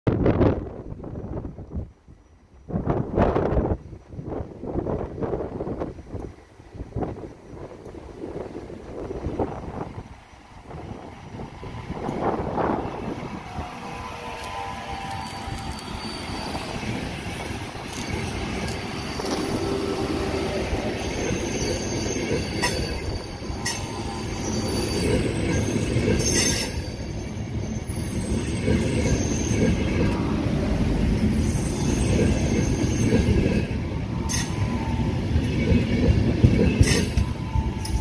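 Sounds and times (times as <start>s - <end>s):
train wheels rumbling on rails: 0.1s - 38.0s.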